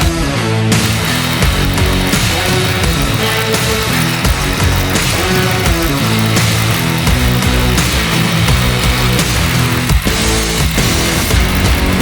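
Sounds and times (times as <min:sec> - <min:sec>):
loud heavy rock music: 0:00.0 - 0:12.0.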